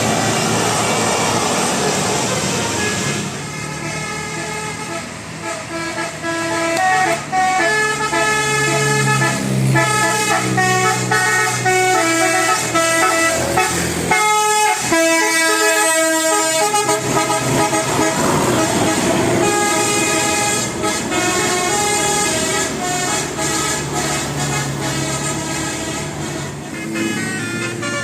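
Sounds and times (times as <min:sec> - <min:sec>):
musical air horns playing tune: 0:02.4 - 0:28.0.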